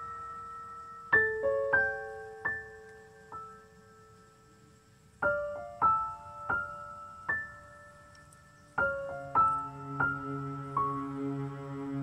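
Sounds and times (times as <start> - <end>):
piano notes: 0.0 - 12.0.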